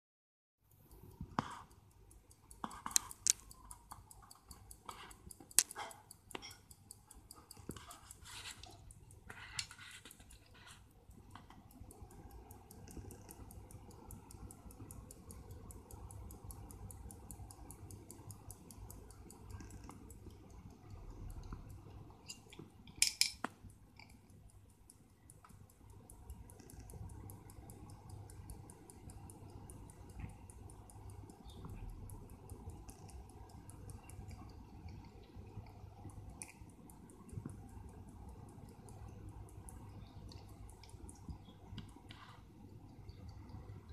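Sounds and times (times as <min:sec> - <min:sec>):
pocket watch ticking: 0:00.7 - 0:43.9.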